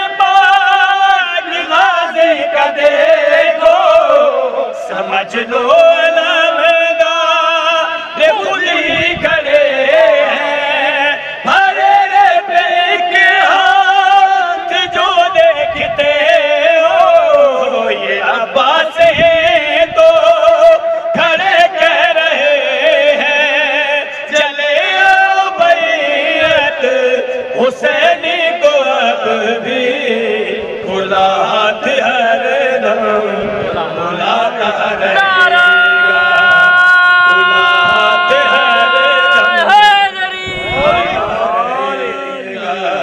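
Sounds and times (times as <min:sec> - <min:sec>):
man singing devotional chant: 0:00.0 - 0:43.0.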